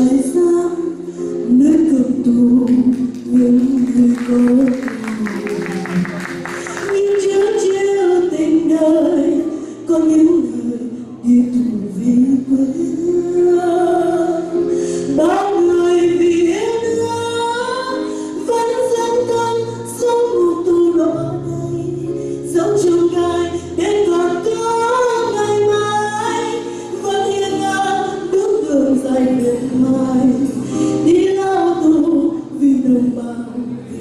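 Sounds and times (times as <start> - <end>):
woman singing into a microphone: 0.0 - 34.0.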